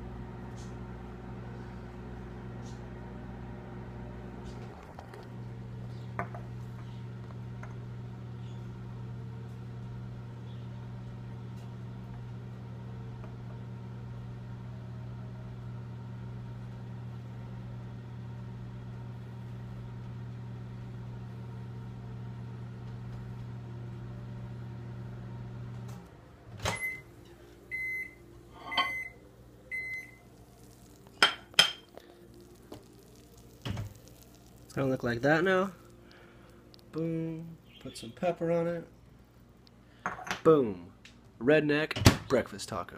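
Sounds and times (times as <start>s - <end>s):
microwave oven humming: 0.0s - 42.2s.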